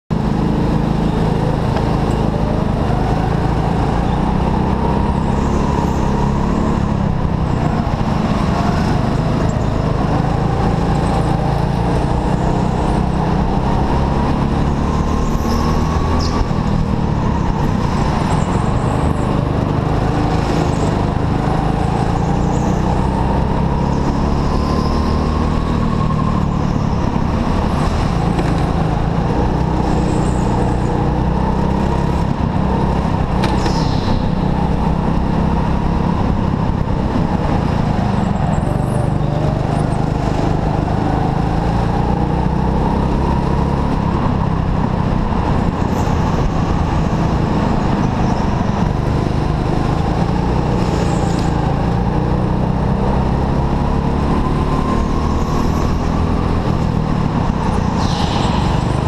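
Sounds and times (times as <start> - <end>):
go-kart motor drone: 0.1 - 59.0.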